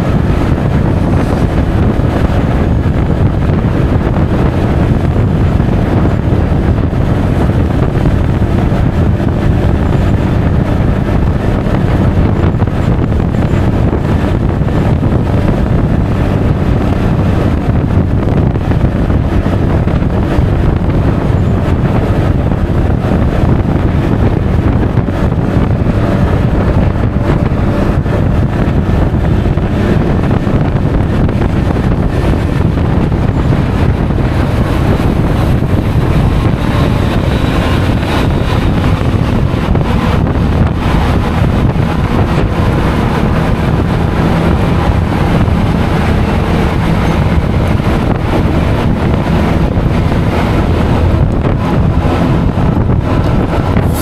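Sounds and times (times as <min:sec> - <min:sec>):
scooter engine: 0:00.0 - 0:54.0
wind rushing over microphone: 0:00.0 - 0:54.0.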